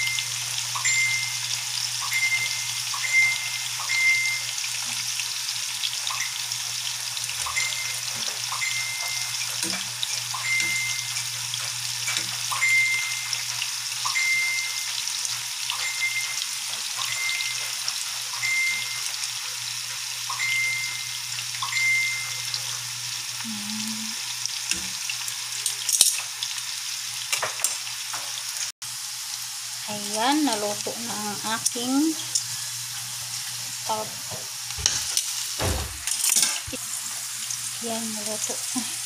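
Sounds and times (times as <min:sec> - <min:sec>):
food deep-frying sizzle: 0:00.0 - 0:39.0.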